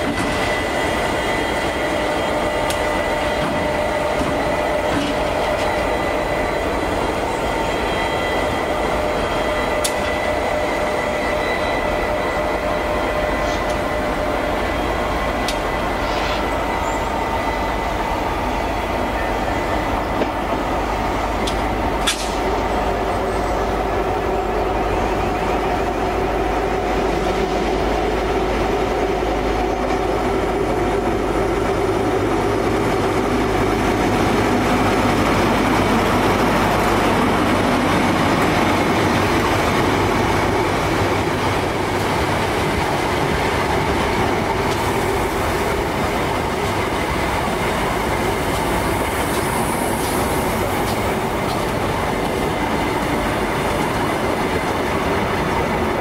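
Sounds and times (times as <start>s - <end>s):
diesel train engine drone: 0.0s - 56.0s.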